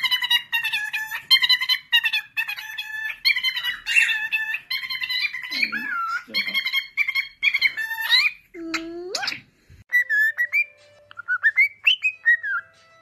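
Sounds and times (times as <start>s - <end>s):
cockatiel chattering and warbling: 0.0s - 12.8s.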